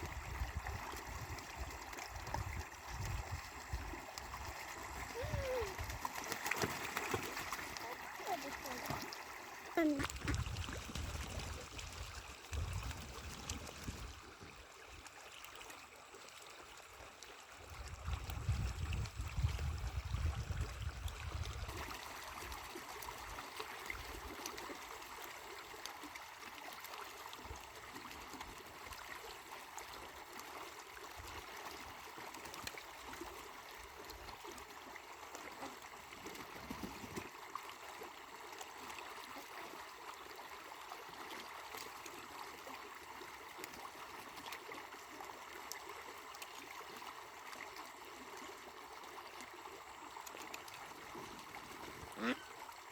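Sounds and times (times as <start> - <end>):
water flowing and trickling: 0.0 - 52.9.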